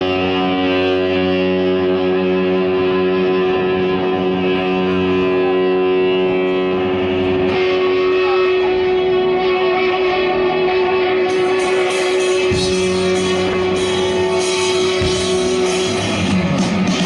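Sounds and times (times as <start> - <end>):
electric guitar sustained chord: 0.0 - 17.0.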